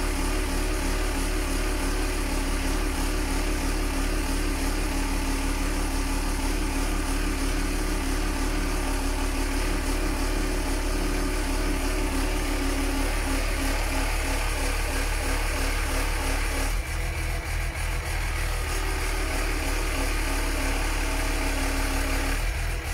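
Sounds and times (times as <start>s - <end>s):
truck engine running: 0.0s - 22.9s.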